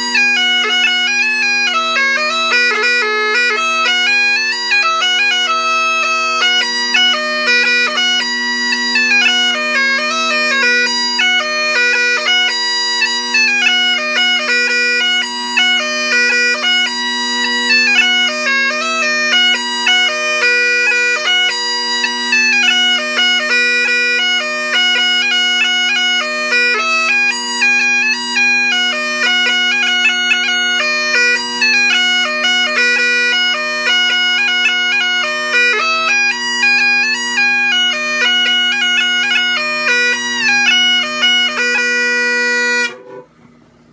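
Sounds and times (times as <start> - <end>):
bagpipe chanter melody: 0.0 - 43.6
bagpipe drones: 0.0 - 43.6.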